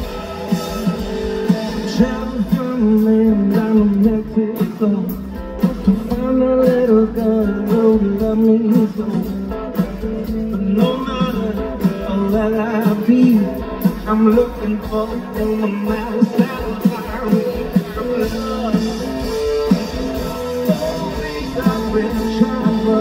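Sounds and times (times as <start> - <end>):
blues-rock band playing live: 0.0 - 23.0
electric guitar: 0.0 - 23.0.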